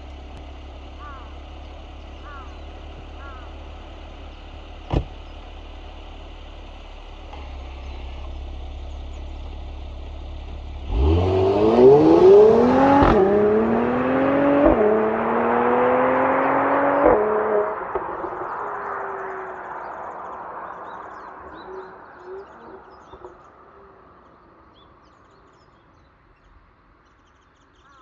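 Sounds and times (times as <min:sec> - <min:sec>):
car exhaust idling: 0:00.0 - 0:25.3
car engine accelerating: 0:00.0 - 0:25.5.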